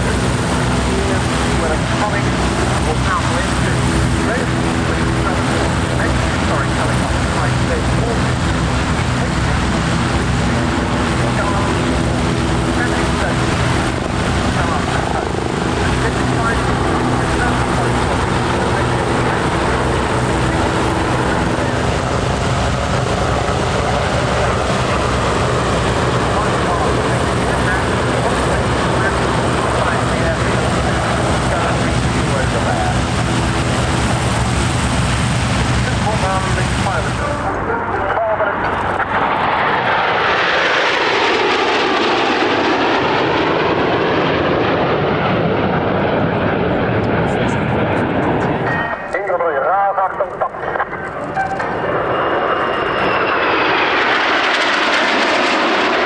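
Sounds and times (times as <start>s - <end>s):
aircraft engine noise: 0.0s - 56.0s.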